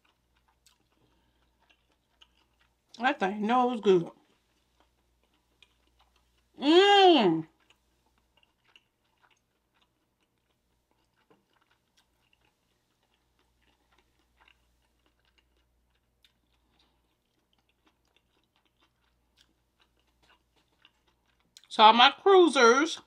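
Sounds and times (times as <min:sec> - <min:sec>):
person chewing softly: 0:00.0 - 0:06.6, 0:07.3 - 0:21.8.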